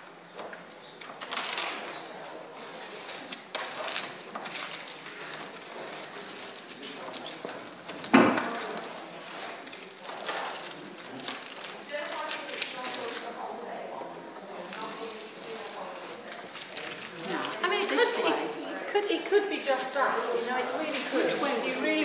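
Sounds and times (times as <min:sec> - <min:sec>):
paper rustling and scraping: 0:00.4 - 0:13.4, 0:14.6 - 0:18.9, 0:19.6 - 0:22.0.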